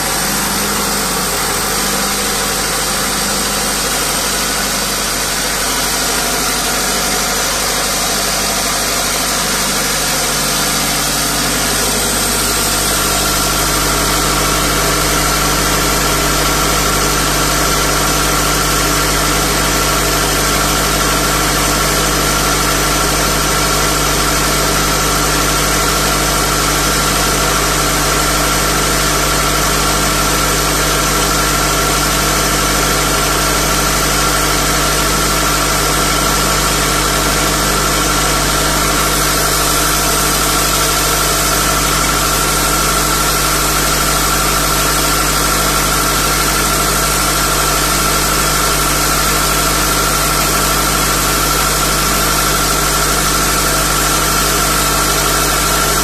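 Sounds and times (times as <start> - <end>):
diesel generator running: 0.0 - 56.0
steady whine: 0.0 - 56.0.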